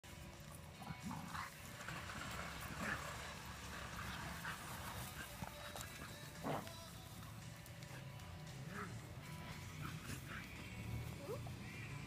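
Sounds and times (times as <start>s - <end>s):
dogs playing: 0.1s - 12.0s.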